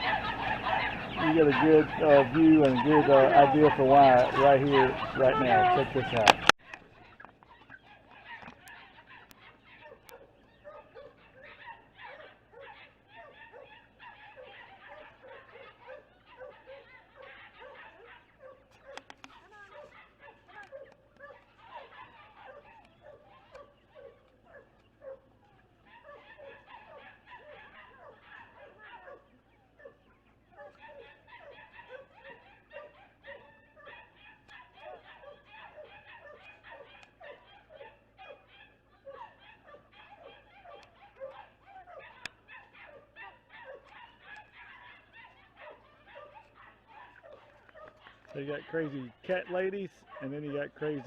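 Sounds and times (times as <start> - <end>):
young chicks peeping: 0.0 - 51.0.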